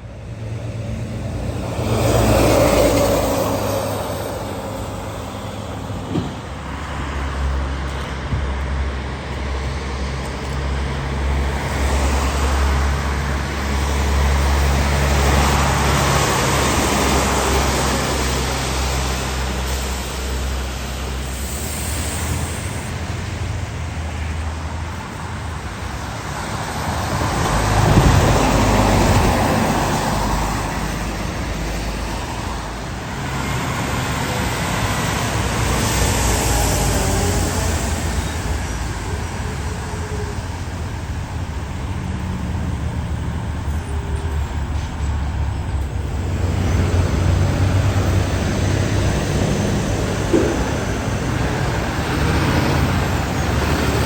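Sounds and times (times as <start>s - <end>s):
low engine drone: 0.0s - 54.0s
road traffic passing: 0.0s - 54.0s.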